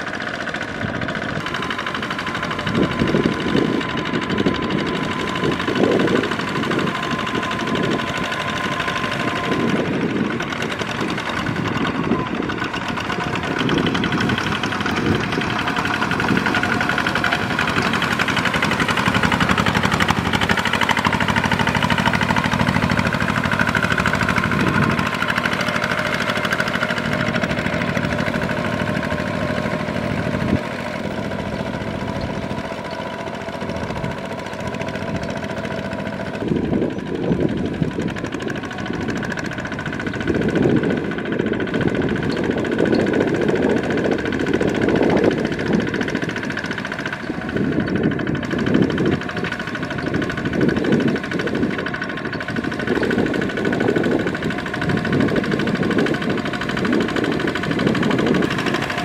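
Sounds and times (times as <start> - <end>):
diesel tractor engine running: 0.0 - 59.0
wheels churning through water: 0.0 - 59.0.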